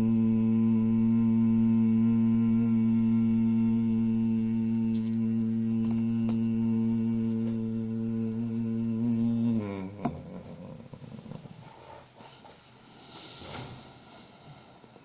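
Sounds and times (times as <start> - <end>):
man humming a low note: 0.0 - 12.5.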